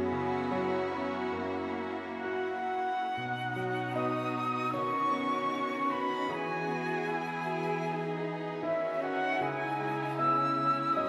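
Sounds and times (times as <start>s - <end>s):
slow sad flute melody: 2.1s - 11.0s.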